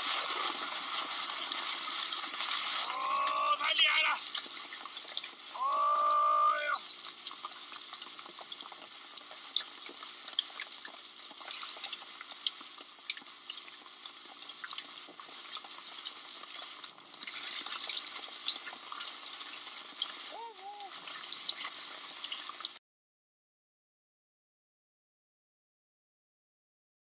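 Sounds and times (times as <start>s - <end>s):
hailstones pelting ground and water: 0.0s - 22.8s.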